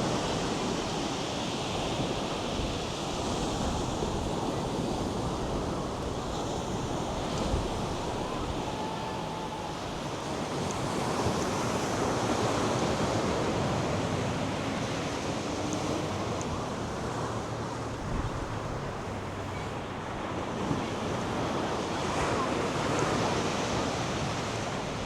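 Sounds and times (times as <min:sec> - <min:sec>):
wind buffeting microphone: 0:00.0 - 0:22.3
waves breaking on beach: 0:00.0 - 0:25.0.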